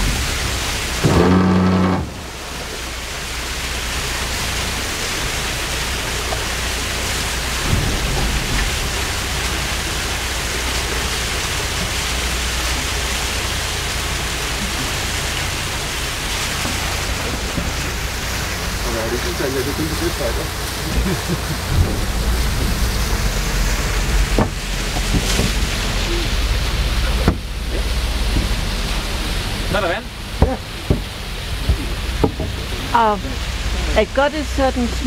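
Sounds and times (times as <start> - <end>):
low rumble: 0.0 - 35.0
meltwater pouring and splashing: 0.0 - 35.0.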